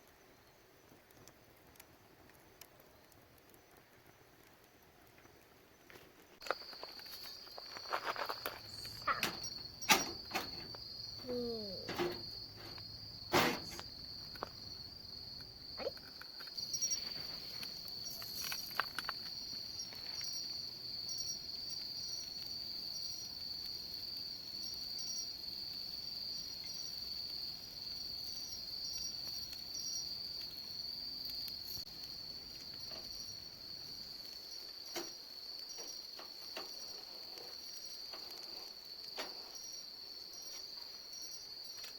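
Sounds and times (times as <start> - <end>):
insects trilling: 5.2 - 41.9.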